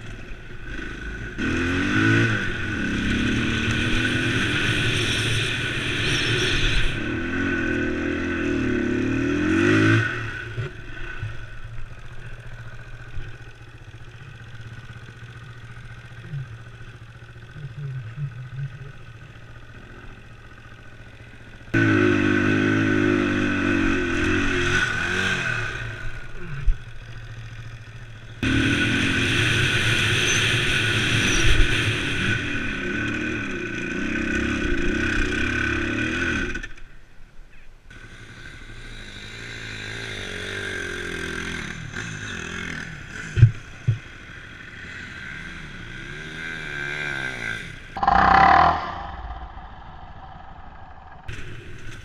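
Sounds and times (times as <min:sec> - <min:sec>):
motorcycle engine revving: 0:00.0 - 0:36.9, 0:37.9 - 0:52.0.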